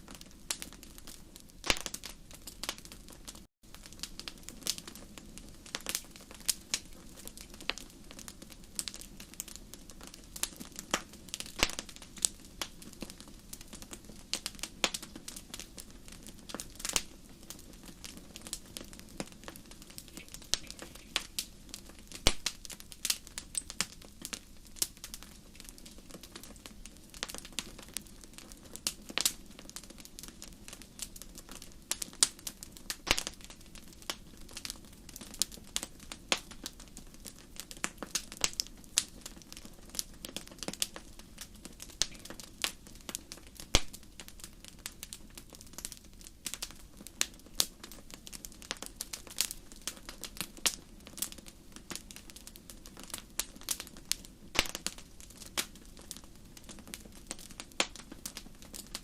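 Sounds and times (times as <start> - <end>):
wood fire popping and snapping: 0.0 - 59.0.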